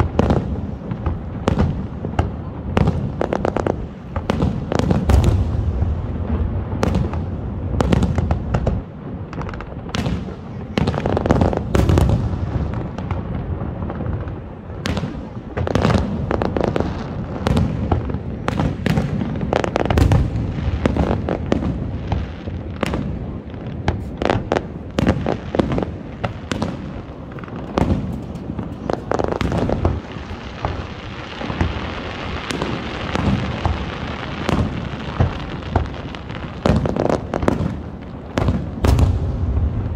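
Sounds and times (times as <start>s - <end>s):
deep fireworks booms: 0.0s - 39.9s
fireworks bursts and crackles: 0.0s - 39.9s.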